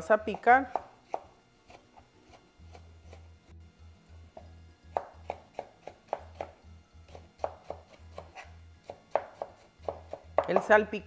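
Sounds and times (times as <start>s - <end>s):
knife chopping on wooden board: 0.3s - 3.3s, 4.4s - 10.8s.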